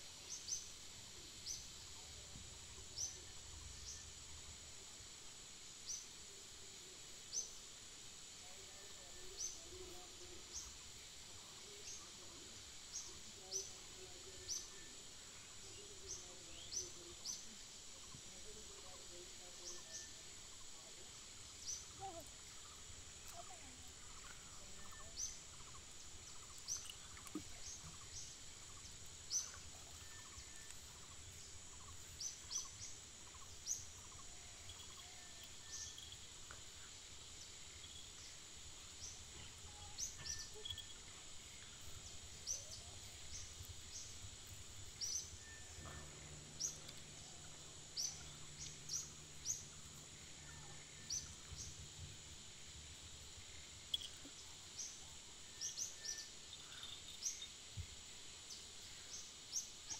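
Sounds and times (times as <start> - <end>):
faint low hum: 0.0 - 59.9
outdoor ambient hiss: 0.0 - 59.9
small birds chirping: 8.4 - 59.9.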